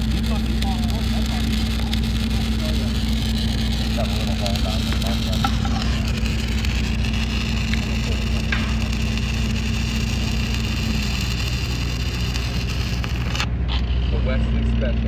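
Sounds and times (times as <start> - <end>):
welding arc crackling: 0.0 - 14.4
low machine hum: 0.0 - 15.0.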